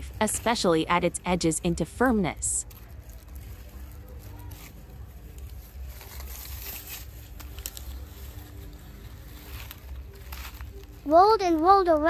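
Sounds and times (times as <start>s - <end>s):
dry leaf and string crackling: 0.0s - 12.0s.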